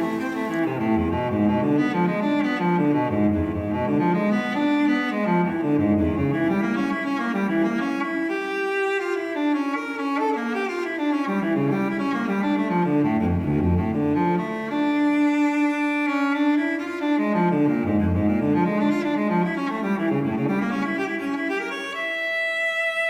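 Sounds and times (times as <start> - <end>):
solo cello melody: 0.0 - 23.0.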